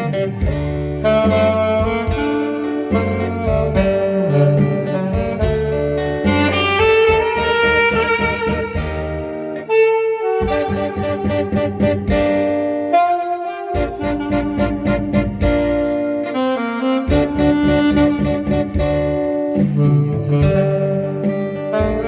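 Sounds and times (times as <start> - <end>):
backing track with bass and guitar: 0.0 - 22.0
saxophone melody: 0.0 - 22.0.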